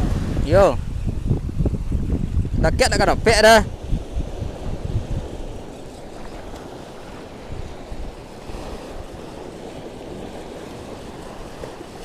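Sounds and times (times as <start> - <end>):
sea surf washing on shore: 0.0 - 12.0
wind gusting on microphone: 0.0 - 12.0.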